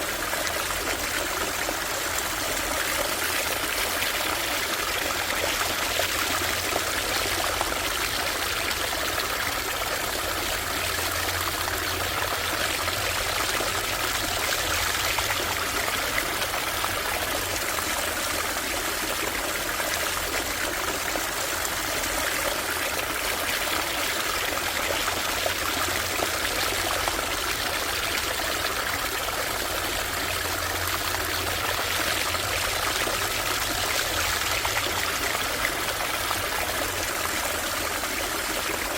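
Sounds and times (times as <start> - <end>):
small stream trickling: 0.0 - 38.9.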